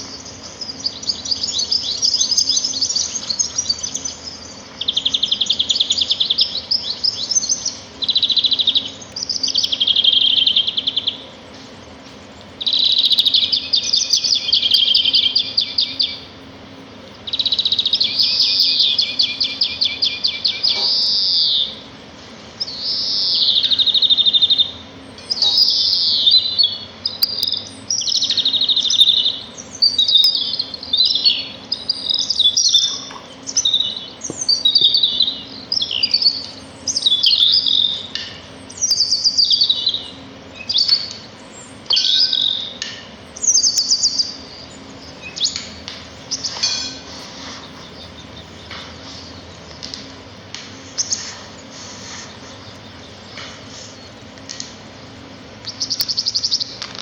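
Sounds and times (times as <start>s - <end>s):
songbird trilling: 0.0s - 21.9s, 22.6s - 50.2s, 50.8s - 56.9s.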